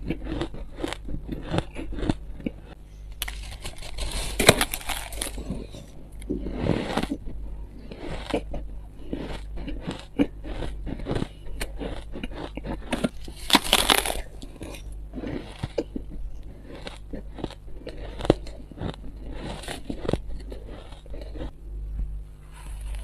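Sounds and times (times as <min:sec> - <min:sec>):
crunching shaved ice: 0:00.0 - 0:21.6.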